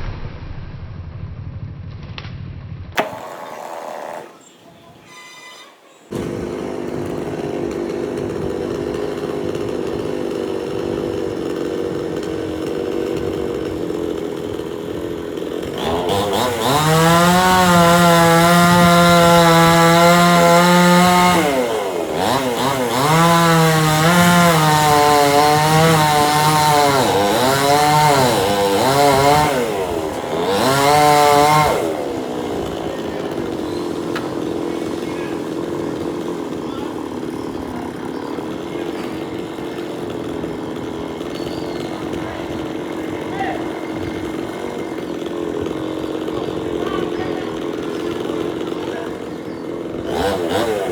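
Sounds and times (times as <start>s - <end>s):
chainsaw idling and revving: 3.0s - 5.4s, 6.1s - 50.9s.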